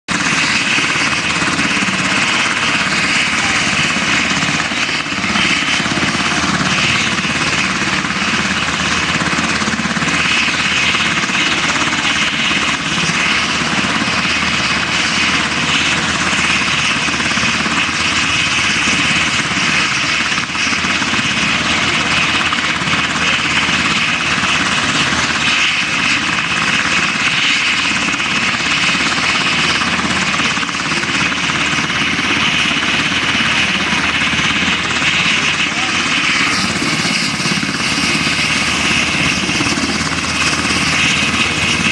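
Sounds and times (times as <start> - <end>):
helicopter rotors and engines: 0.1 - 41.9.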